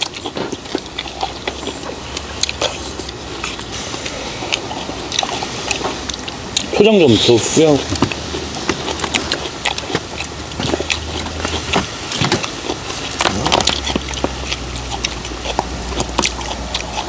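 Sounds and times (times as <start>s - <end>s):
chewing: 0.0s - 17.0s
shells crackling on grill: 0.0s - 17.0s
steady low hum: 0.0s - 17.0s.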